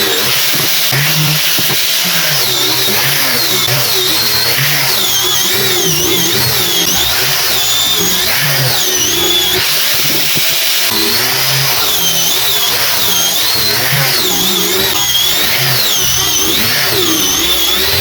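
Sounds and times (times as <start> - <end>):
electric sander on wood: 0.0 - 18.0.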